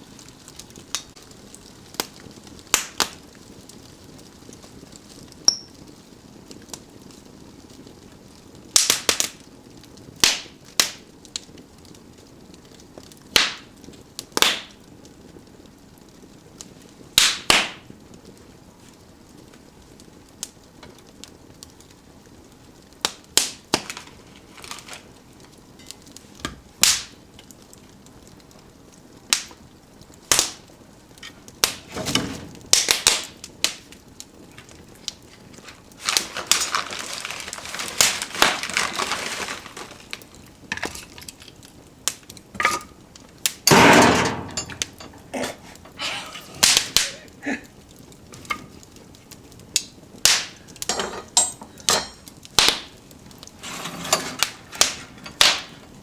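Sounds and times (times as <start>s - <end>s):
fire hissing: 0.0s - 56.0s
wood fire crackling: 0.0s - 56.0s.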